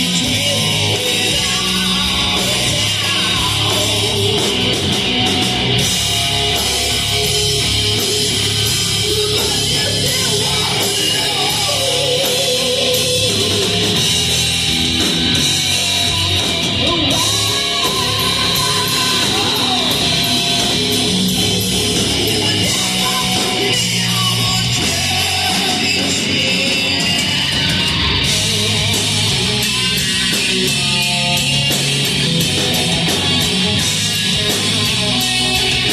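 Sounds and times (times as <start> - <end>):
distorted electric guitar: 0.0 - 35.9
hard rock band playing: 0.0 - 35.9.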